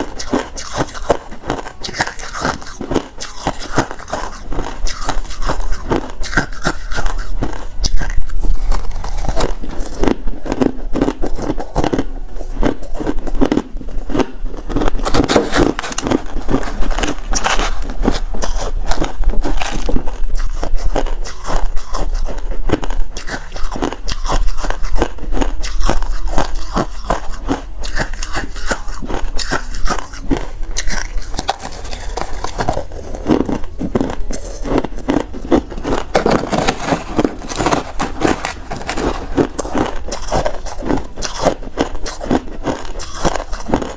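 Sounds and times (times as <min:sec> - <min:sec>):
ice being chewed: 0:00.0 - 0:43.9.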